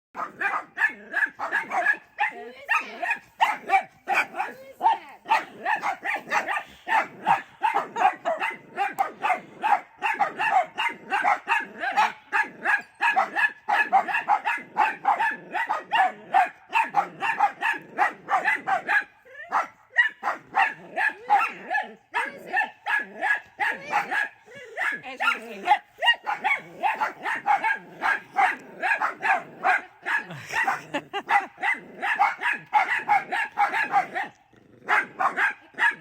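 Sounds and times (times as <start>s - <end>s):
small dogs barking: 0.2s - 36.0s.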